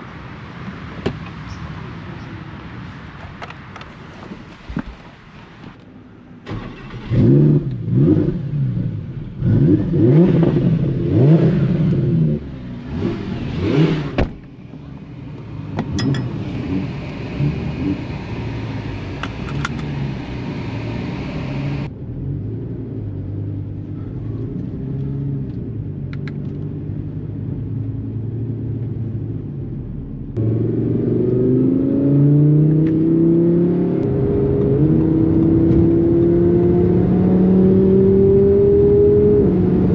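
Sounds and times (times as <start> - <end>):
car engine revving: 6.4 - 29.1, 29.7 - 39.9.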